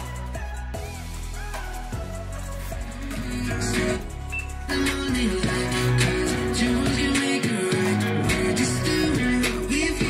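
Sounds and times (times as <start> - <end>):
song with guitar over speaker: 0.0 - 10.0.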